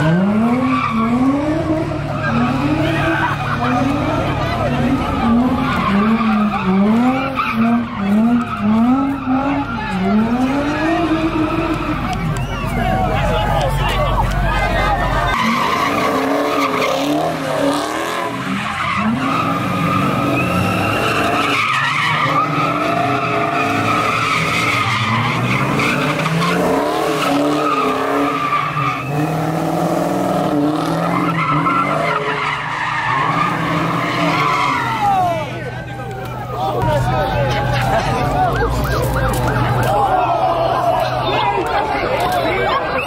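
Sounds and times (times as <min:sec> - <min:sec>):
car engine revving: 0:00.0 - 0:41.9
tyres squealing on pavement: 0:00.3 - 0:43.0.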